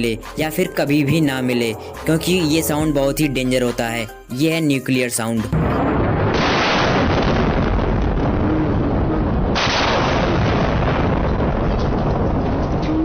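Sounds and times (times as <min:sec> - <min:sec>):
explosion blast rush: 0:00.6 - 0:03.8, 0:05.6 - 0:13.0.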